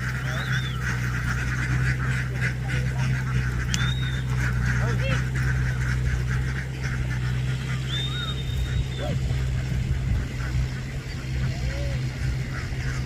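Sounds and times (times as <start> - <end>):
ducks quacking: 0.0 - 13.0
steady low hum: 0.0 - 13.0.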